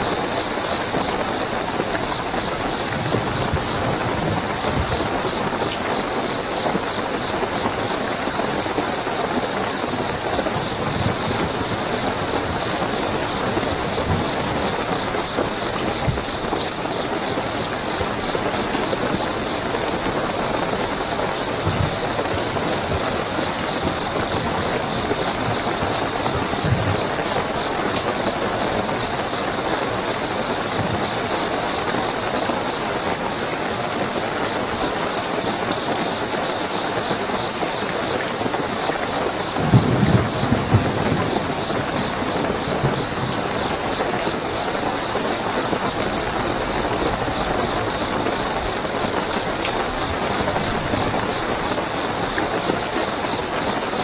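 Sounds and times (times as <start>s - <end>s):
crickets chirping: 0.0s - 54.0s
heavy rainfall: 0.0s - 54.0s
heavy raindrop thud: 0.1s - 54.0s.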